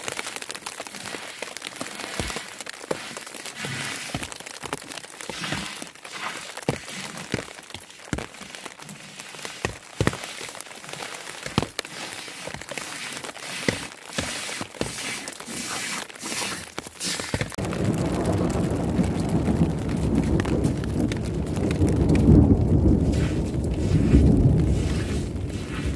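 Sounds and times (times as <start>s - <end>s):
snow pattering on surfaces: 0.0s - 25.9s.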